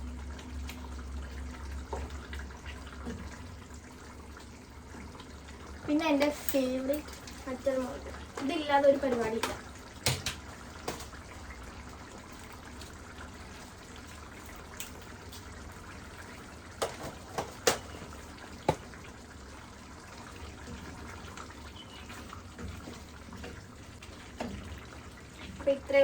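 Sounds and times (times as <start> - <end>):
curry bubbling in a pan: 0.0 - 26.0.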